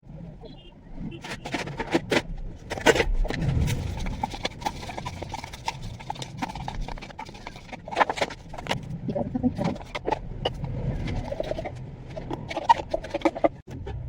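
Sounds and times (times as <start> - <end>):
kitchen items clattering: 1.2 - 13.7.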